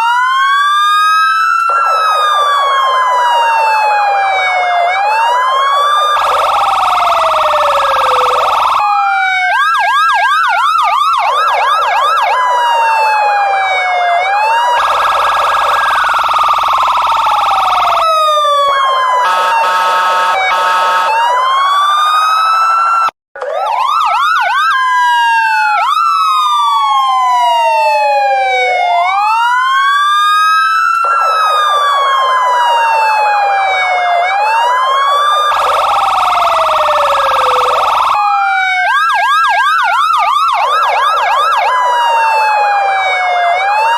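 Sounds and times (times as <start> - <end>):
police sirens wailing: 0.0 - 43.9.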